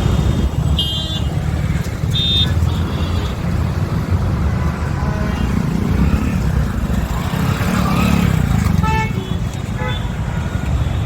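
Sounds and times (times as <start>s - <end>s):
heavy highway traffic rumble: 0.0s - 11.0s.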